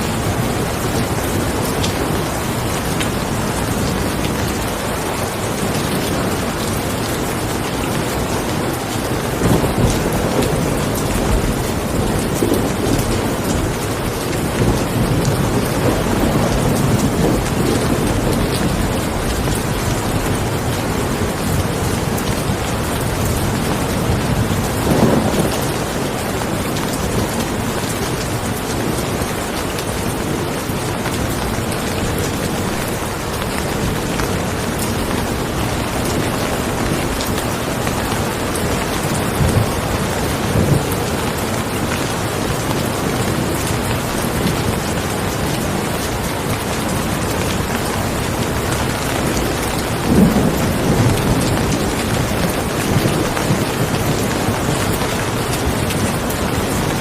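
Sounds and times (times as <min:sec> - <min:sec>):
steady rain falling: 0:00.0 - 0:57.0
thunder rumbling: 0:00.0 - 0:57.0.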